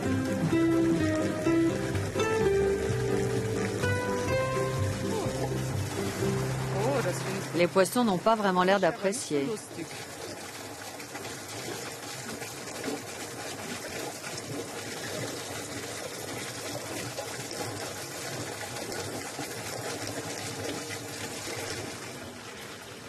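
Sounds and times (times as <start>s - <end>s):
water running into a tank: 0.0s - 23.0s.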